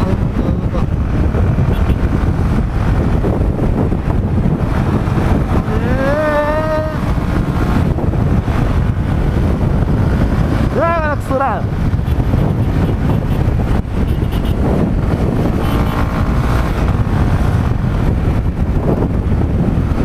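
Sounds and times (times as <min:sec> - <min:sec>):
motorcycle engine at speed: 0:00.0 - 0:20.0
wind noise on microphone: 0:00.0 - 0:20.0.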